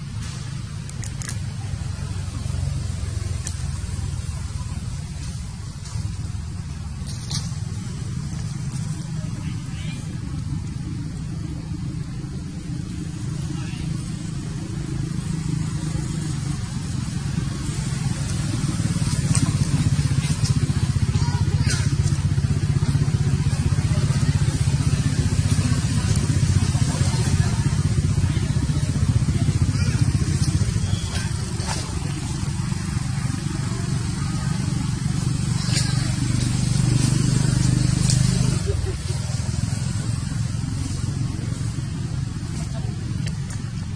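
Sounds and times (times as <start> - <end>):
low pulsing engine hum: 0.0 - 43.9.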